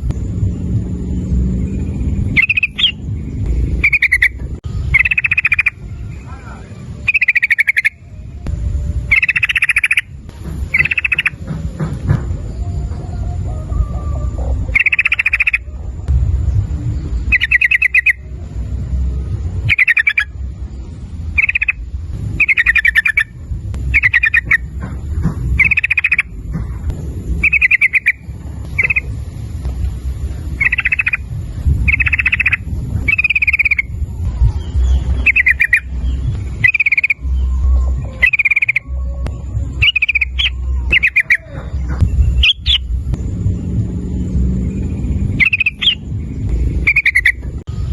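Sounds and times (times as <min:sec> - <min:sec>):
steady low rumble: 0:00.0 - 0:47.9
bulbul calling: 0:01.7 - 0:16.1, 0:17.2 - 0:18.4, 0:19.6 - 0:43.0, 0:44.7 - 0:47.6.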